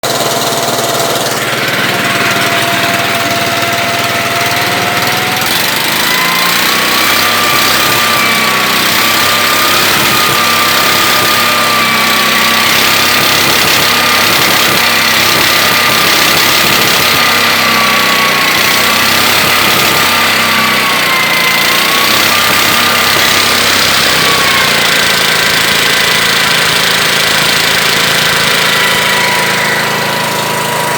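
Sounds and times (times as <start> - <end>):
two-stroke engine running: 0.0 - 30.9.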